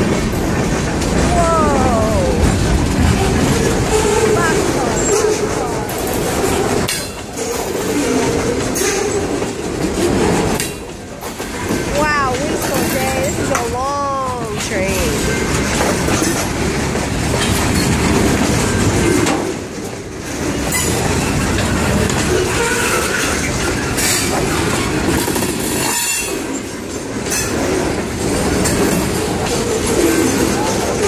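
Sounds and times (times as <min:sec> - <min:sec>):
freight train cars rolling past: 0:00.0 - 0:31.0.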